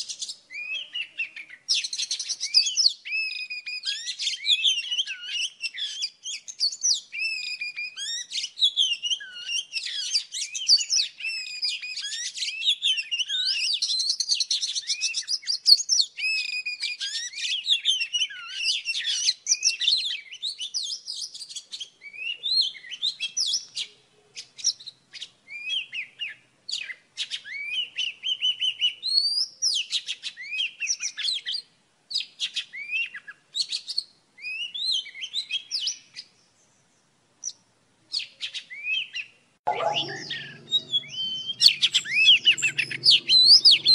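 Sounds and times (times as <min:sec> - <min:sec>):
bird song whistles and trills: 0:00.0 - 0:43.9.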